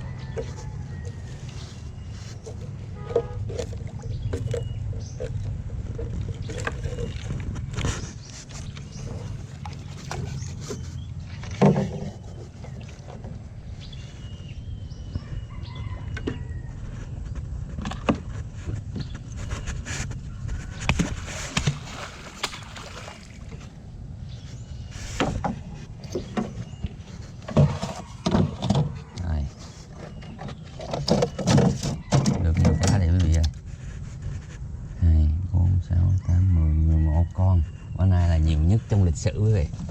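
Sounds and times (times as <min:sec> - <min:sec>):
knocks and thumps in a boat: 0:00.0 - 0:34.7, 0:37.4 - 0:39.9.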